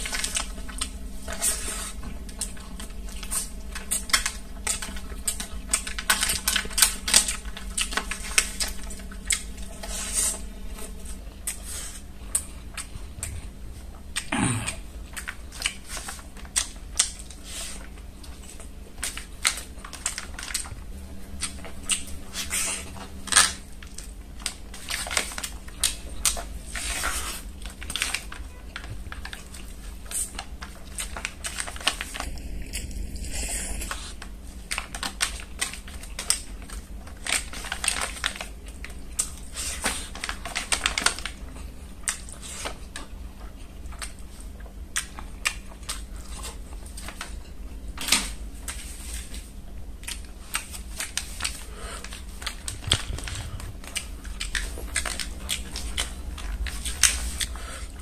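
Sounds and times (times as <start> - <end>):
wet chewing and crunchy bites: 0.0 - 58.0.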